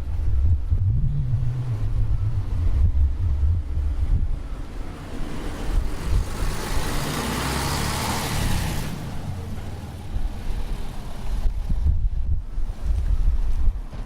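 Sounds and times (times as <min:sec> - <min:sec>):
diesel engine low rumble: 0:00.0 - 0:14.0.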